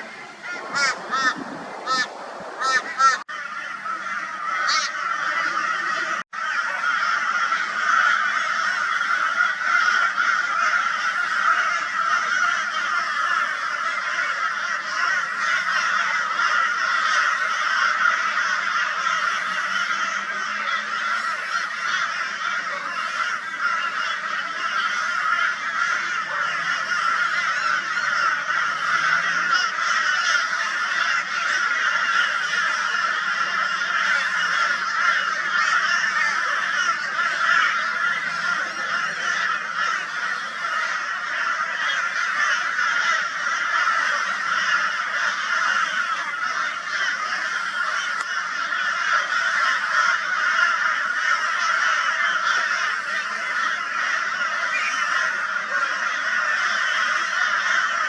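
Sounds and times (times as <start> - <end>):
crows calling raucously: 0.0 - 58.0.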